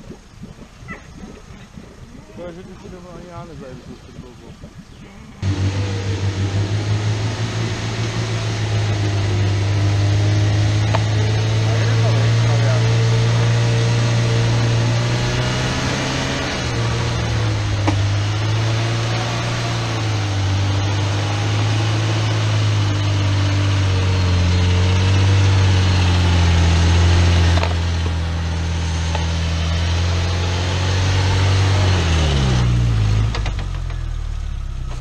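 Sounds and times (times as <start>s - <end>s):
jeep engine running under load: 5.4s - 35.0s.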